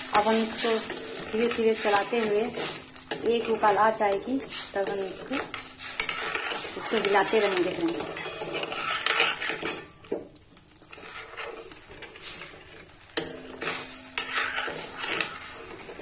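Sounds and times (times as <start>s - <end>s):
metal spoon scraping a pan: 0.0s - 16.0s.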